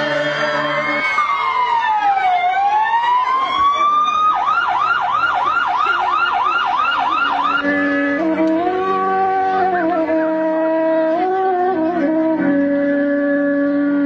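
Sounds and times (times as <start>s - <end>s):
music of long held notes: 0.0s - 4.5s, 7.0s - 14.0s
siren wailing and warbling: 0.0s - 11.4s.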